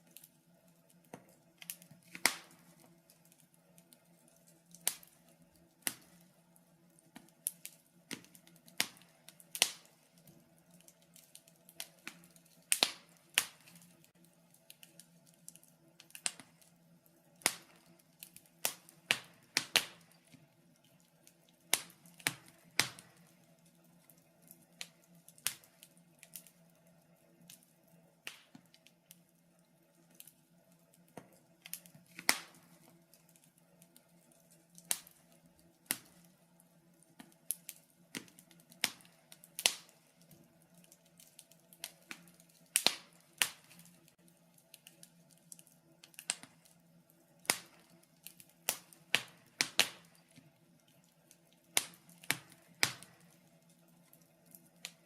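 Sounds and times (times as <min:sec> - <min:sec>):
faint steady low hum: 0:00.0 - 0:55.0
wood fire crackling: 0:00.0 - 0:55.0.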